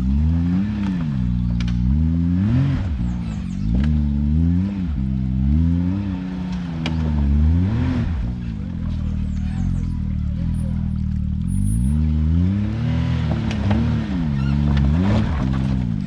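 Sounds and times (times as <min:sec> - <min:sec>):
utility vehicle engine revving: 0:00.0 - 0:16.0.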